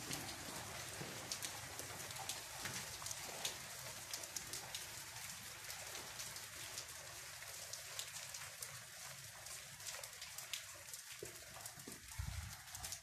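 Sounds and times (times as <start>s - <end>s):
rain on wet paving: 0.0s - 13.0s.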